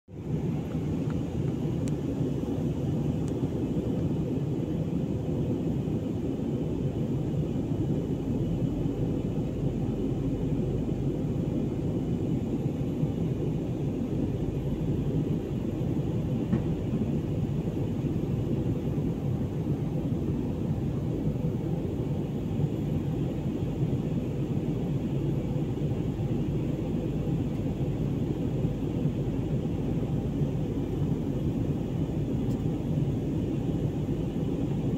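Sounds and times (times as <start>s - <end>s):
airliner cabin engine rumble: 0.1s - 34.9s.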